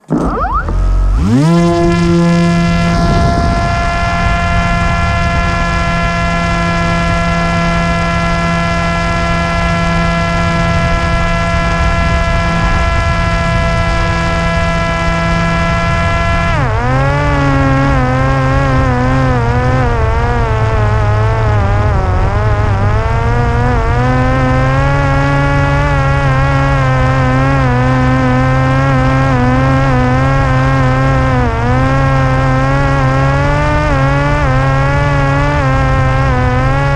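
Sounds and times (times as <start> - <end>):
drone motor whining: 0.0 - 36.9
wind noise: 0.0 - 36.9.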